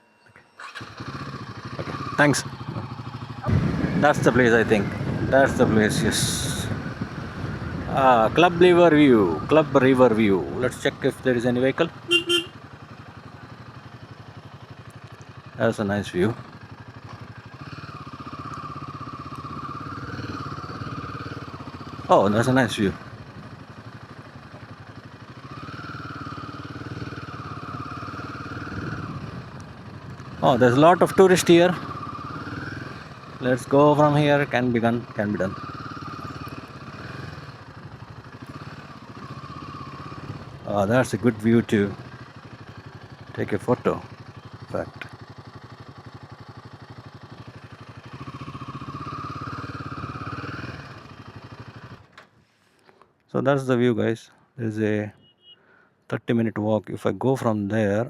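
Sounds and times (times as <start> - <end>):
motorcycle engine at low revs: 0.6 - 52.8.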